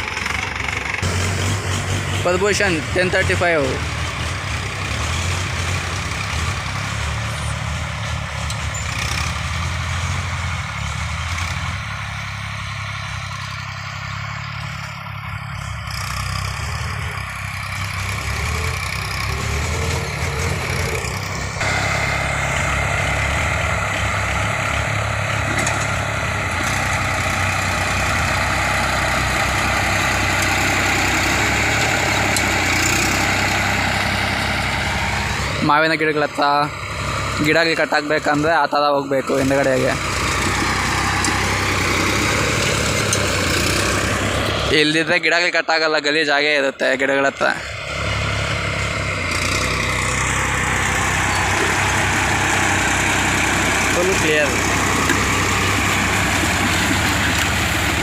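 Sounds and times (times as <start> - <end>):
diesel tractor engine droning: 0.0 - 58.0.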